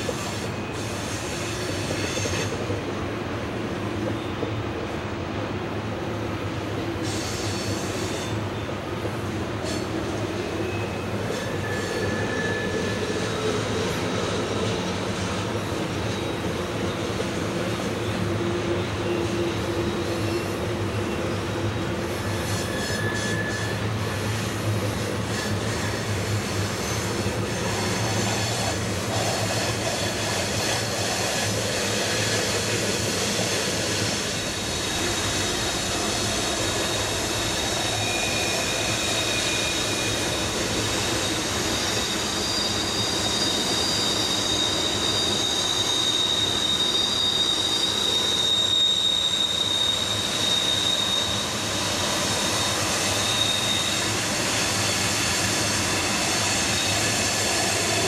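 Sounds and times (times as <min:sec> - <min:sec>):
train wheels rumbling on rail: 0:00.0 - 0:58.0
wheel flange squeals: 0:07.0 - 0:58.0.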